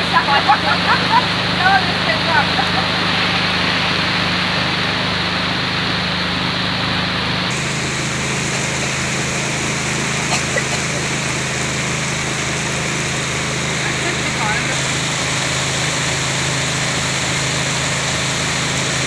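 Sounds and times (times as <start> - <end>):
boat motor running: 0.0 - 19.0
heavy rain on water: 0.0 - 19.0.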